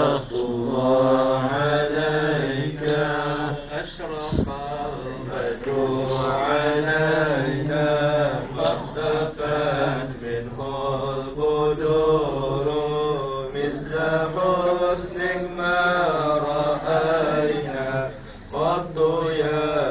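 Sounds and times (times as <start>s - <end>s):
men chanting in unison: 0.0s - 19.9s.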